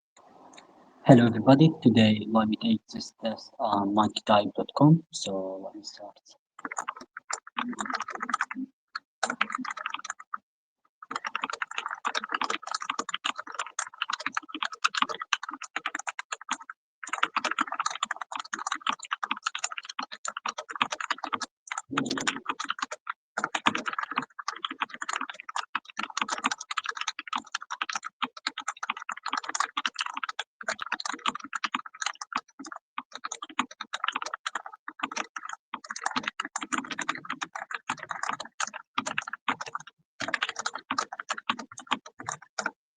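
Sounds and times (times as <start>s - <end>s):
fast keyboard typing: 1.2s - 5.4s, 6.6s - 10.4s, 11.0s - 42.8s.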